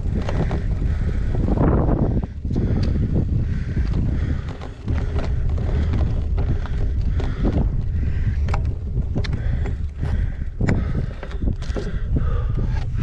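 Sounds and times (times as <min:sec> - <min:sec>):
bike clicks and rattles: 0:00.0 - 0:13.0
wind buffeting microphone: 0:00.0 - 0:13.0.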